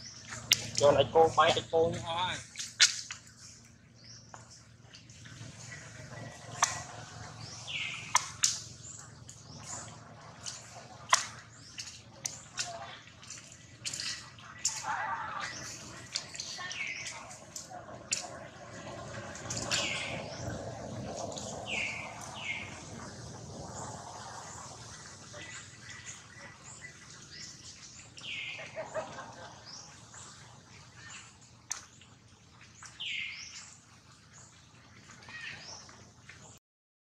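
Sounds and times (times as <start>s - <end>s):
birds chirping: 0.0s - 36.6s.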